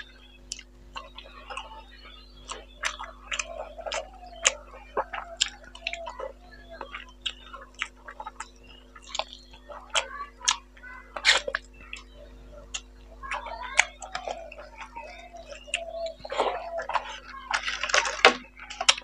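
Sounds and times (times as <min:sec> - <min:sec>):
steady low hum: 0:00.0 - 0:19.0
wet chewing and lip smacking: 0:00.0 - 0:19.0.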